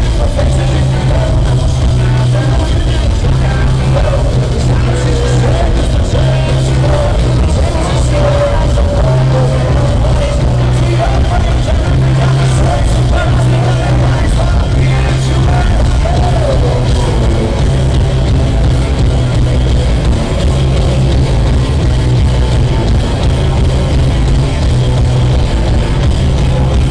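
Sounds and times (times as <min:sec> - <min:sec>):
rock band playing live: 0:00.0 - 0:26.9.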